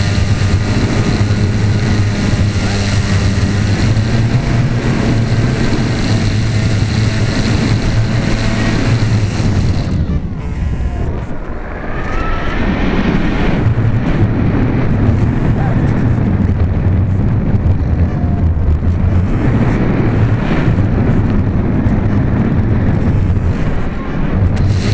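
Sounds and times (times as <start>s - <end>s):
model aircraft motor drone: 0.0s - 24.9s
wind rushing over microphone: 0.0s - 24.9s.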